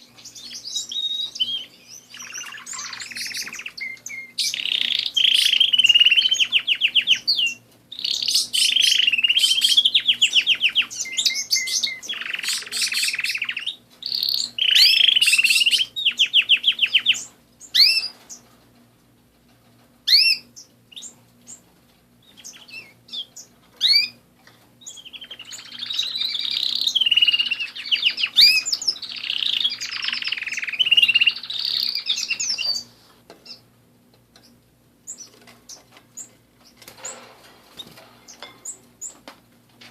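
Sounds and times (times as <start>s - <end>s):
canary singing: 0.0s - 18.4s, 20.0s - 21.6s, 22.2s - 24.2s, 24.8s - 33.7s, 34.4s - 37.2s.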